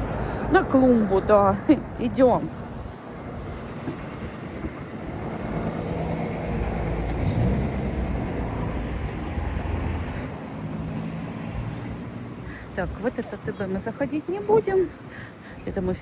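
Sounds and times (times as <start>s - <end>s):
vehicle passing on street: 0.0s - 15.9s.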